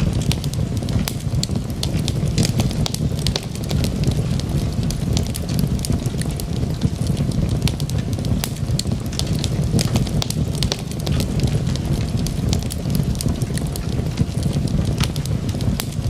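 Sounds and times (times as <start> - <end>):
low rumble of flames: 0.0 - 16.0
wood crackling and popping: 0.0 - 16.0.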